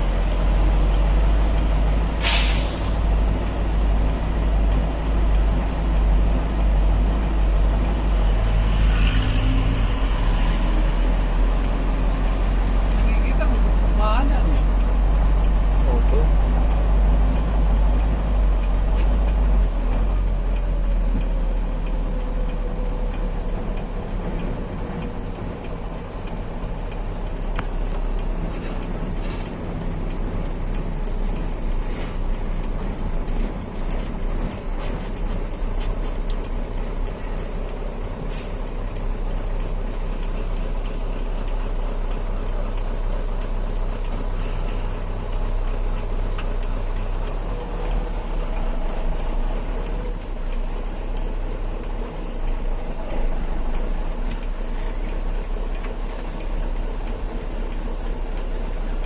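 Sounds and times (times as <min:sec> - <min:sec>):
heavy truck engine and road rumble: 0:00.0 - 0:59.0.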